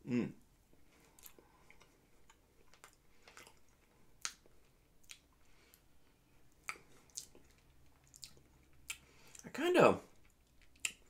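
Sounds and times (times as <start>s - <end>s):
chewing wafer: 0.7s - 9.5s, 10.1s - 11.0s.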